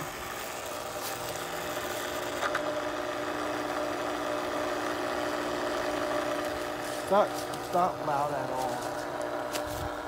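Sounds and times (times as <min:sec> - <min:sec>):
filter pump motor humming: 0:00.0 - 0:10.0.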